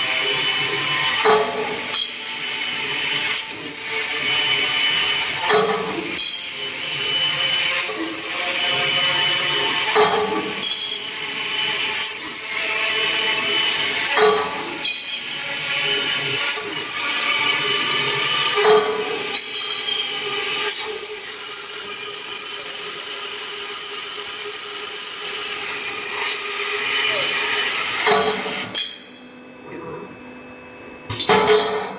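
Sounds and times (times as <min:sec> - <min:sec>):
metal-cutting machine whining: 0:00.0 - 0:29.4.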